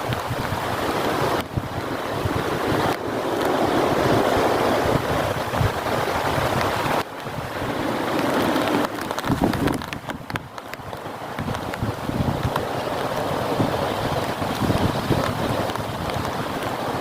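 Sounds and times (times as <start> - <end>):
heavy rain pouring: 0.0 - 17.0
wind buffeting microphone: 0.0 - 17.0.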